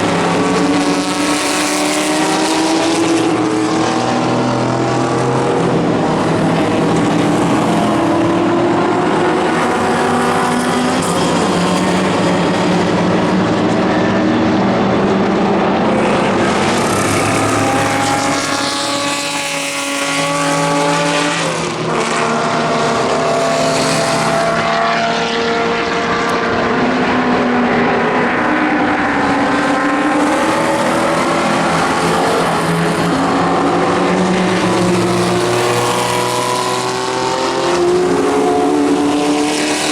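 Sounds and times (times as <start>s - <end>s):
racing car engines: 0.0s - 39.9s
racing car passing by: 0.0s - 39.9s.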